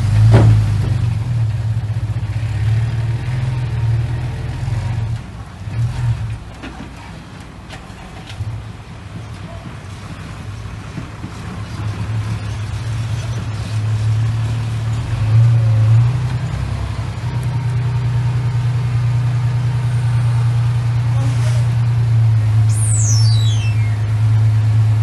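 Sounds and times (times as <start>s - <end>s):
truck engine low hum: 0.0s - 25.0s.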